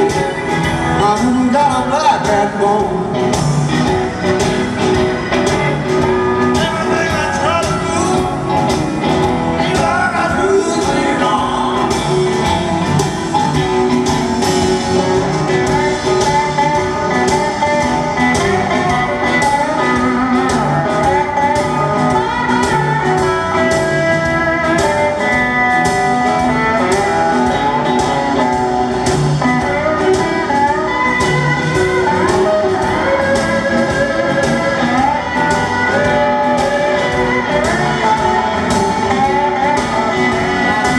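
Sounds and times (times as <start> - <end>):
live blues band playing: 0.0 - 40.9
steel guitar solo: 0.0 - 40.9.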